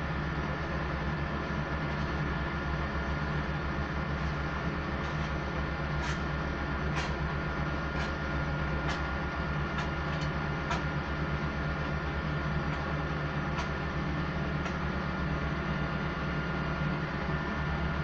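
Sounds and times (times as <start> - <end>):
diesel machinery running: 0.0 - 18.0
thin steady whine: 0.0 - 18.0.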